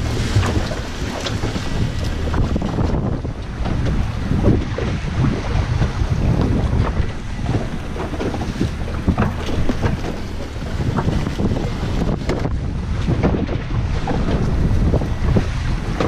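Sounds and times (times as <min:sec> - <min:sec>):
waves splashing against hull: 0:00.0 - 0:16.0
wind buffeting microphone: 0:00.0 - 0:16.0.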